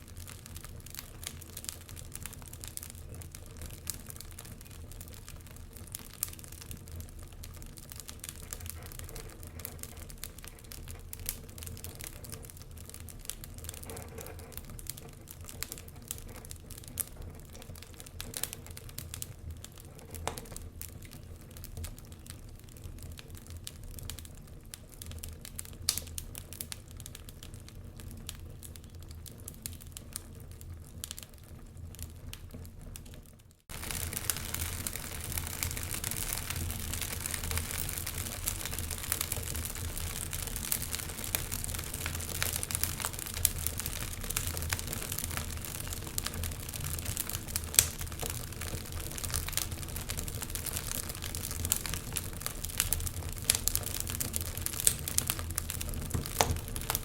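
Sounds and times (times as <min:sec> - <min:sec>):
steady fire hiss: 0:00.0 - 0:57.0
wood fire crackling and popping: 0:00.0 - 0:57.0.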